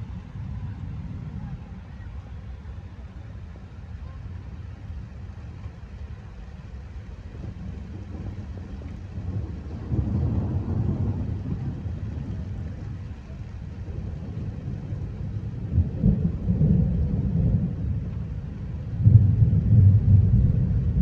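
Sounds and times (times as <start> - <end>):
thunder rumbling: 0.0 - 2.9, 4.0 - 21.0.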